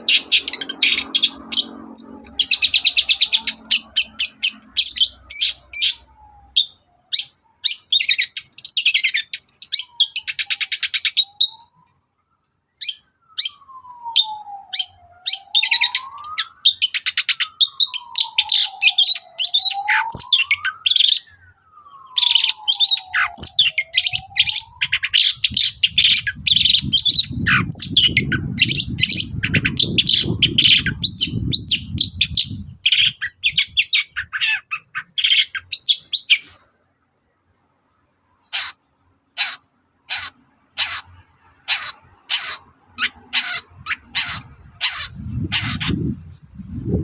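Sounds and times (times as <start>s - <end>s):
slow falling and rising whistles: 0.0s - 38.4s
bird chattering song: 0.0s - 47.0s.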